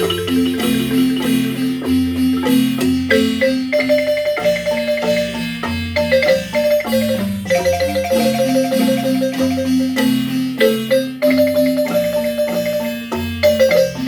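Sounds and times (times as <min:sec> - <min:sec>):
marimba bass notes: 0:00.0 - 0:14.0
marimba tremolo melody: 0:00.0 - 0:14.0.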